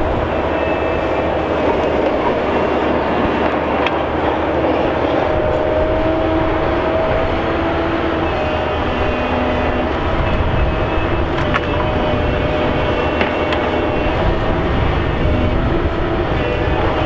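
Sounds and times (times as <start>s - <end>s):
log processor engine and hydraulics: 0.0s - 17.0s.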